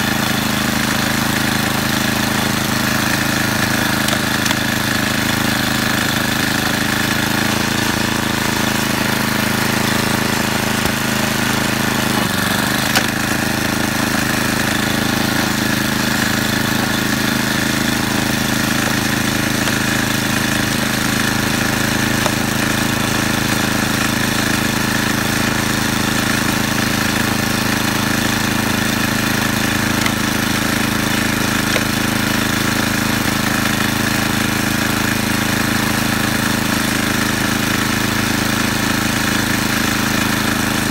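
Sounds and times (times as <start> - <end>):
snowblower engine running: 0.0 - 40.9.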